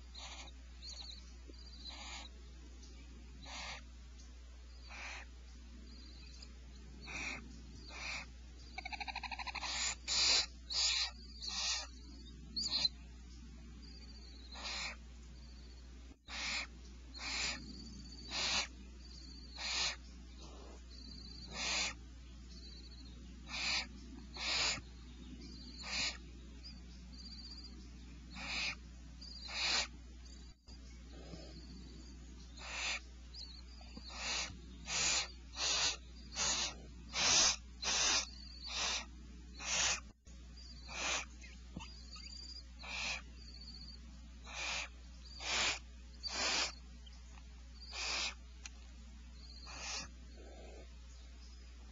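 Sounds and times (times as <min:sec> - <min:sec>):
owl chicks hissing: 0:00.0 - 0:02.4, 0:03.3 - 0:04.0, 0:04.7 - 0:51.1.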